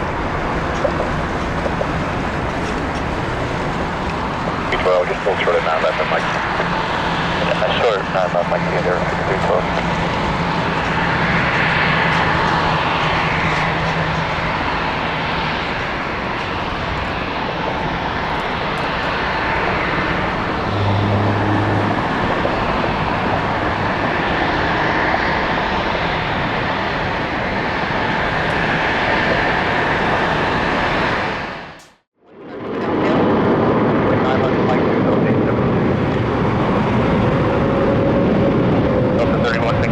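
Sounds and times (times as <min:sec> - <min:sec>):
jet plane taking off: 0:00.0 - 0:39.9.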